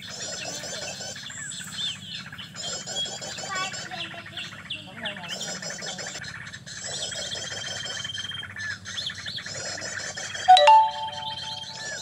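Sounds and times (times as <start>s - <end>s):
small birds chirping and trilling: 0.0s - 10.4s.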